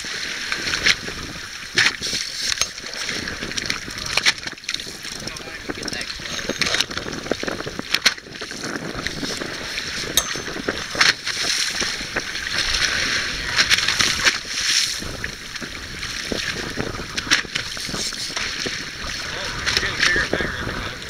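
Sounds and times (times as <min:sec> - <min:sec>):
water splashing against boat: 0:00.0 - 0:21.0
wind buffeting microphone: 0:00.0 - 0:21.0.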